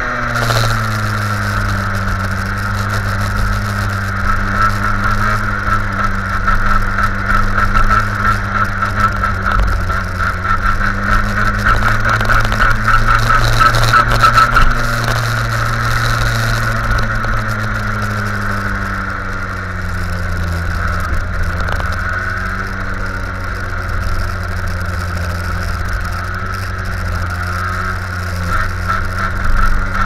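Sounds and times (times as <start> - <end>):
go-kart engine running hard: 0.0 - 30.0.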